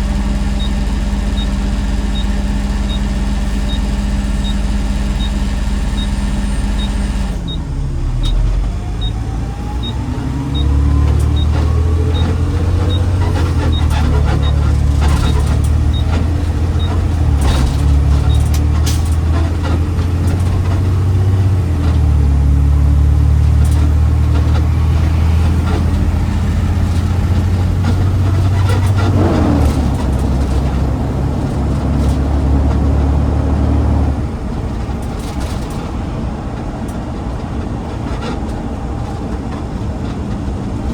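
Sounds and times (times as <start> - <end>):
garbage truck diesel engine: 0.0 - 40.9.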